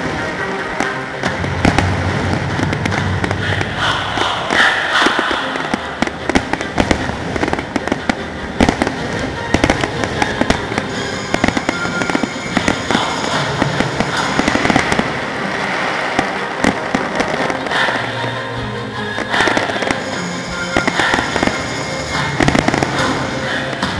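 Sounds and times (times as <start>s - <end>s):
fireworks bangs and crackles: 0.0s - 18.4s, 19.2s - 23.9s.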